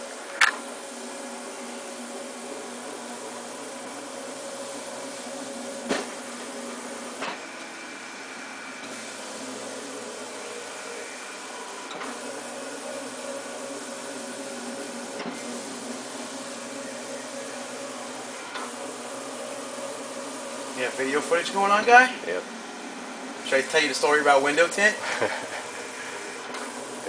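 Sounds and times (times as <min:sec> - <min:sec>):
cutting plotter whirring: 0:00.0 - 0:27.0.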